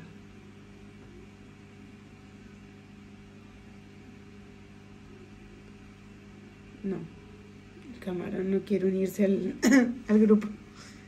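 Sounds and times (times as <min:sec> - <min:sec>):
aquarium pump hum: 0:00.0 - 0:11.0.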